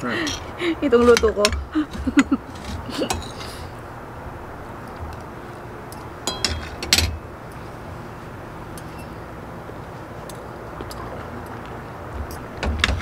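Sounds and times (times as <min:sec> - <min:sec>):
background noise: 0:00.0 - 0:13.0.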